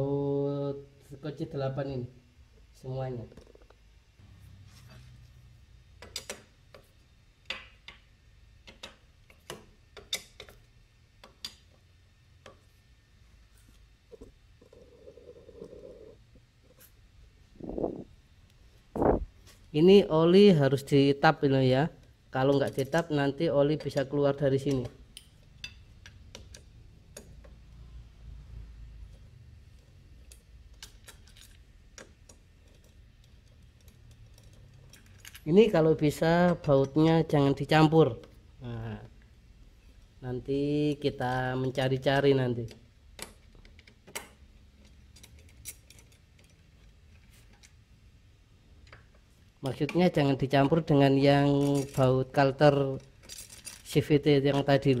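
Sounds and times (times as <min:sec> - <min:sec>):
steady low hum: 0:00.0 - 0:53.2.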